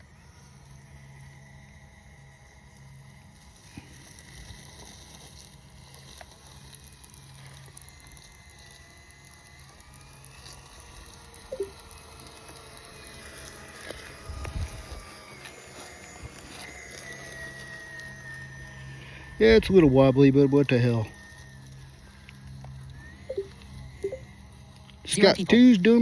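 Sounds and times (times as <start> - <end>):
small electric motor whining: 0.0 - 26.0
tyres crackling over ground: 2.7 - 26.0.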